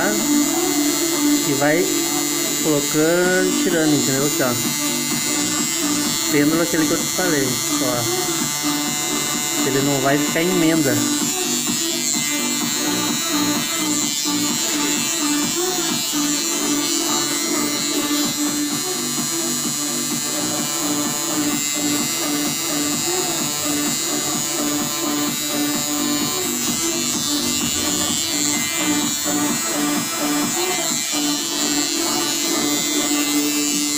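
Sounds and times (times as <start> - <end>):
tattoo machine buzzing: 0.0 - 33.9.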